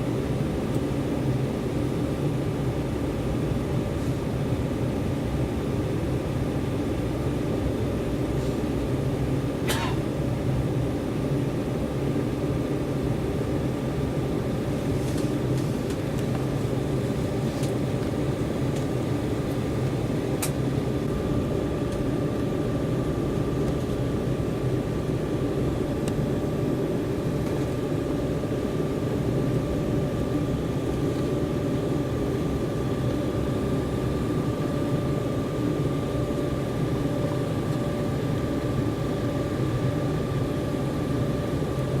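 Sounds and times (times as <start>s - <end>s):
constant high whine: 0.0s - 42.0s
jet engines and airflow roar: 0.0s - 42.0s.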